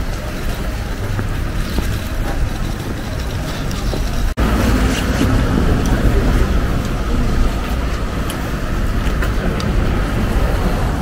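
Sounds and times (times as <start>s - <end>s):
street ambience rumble: 0.0s - 11.0s
wind on microphone: 0.0s - 11.0s.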